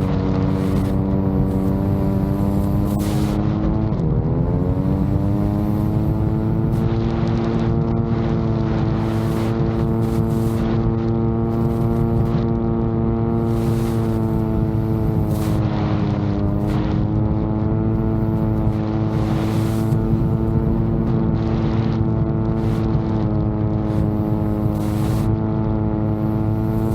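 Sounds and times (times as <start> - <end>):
drone propellers humming: 0.0 - 26.9
wind rumbling on microphone: 0.0 - 26.9.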